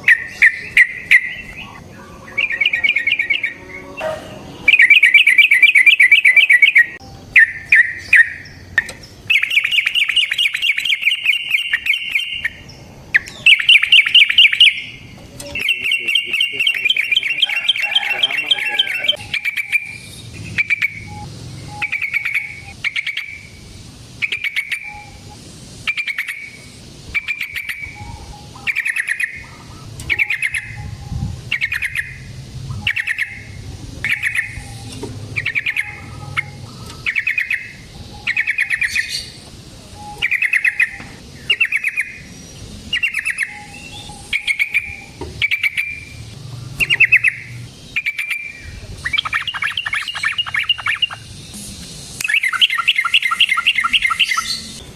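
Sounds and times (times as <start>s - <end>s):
bird chattering: 0.0s - 51.4s, 52.2s - 54.9s
bird singing: 0.0s - 51.6s, 52.2s - 54.9s.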